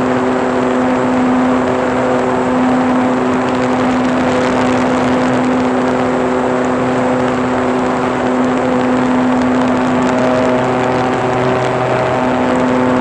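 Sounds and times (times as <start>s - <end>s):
model plane motor and propeller: 0.0s - 13.0s
wind noise: 0.0s - 13.0s.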